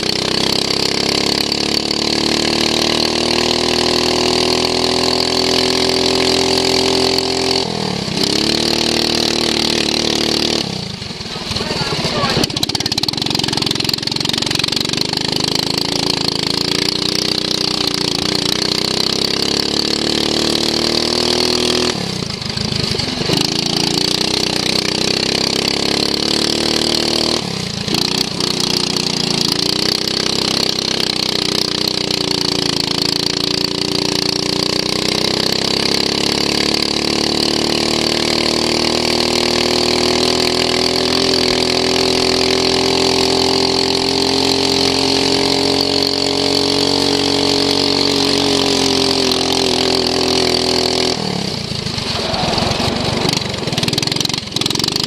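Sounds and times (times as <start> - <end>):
lawn mower engine running hard: 0.0 - 55.0.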